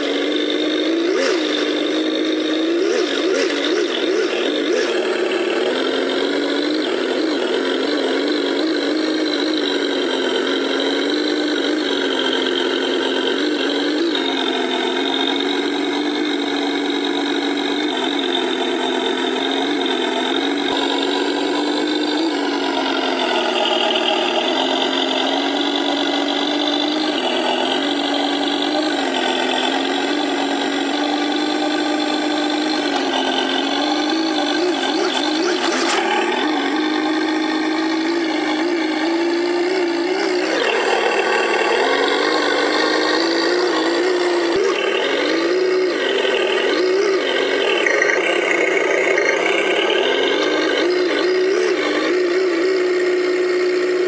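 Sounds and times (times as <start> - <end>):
simulated engine sound: 0.0 - 54.0.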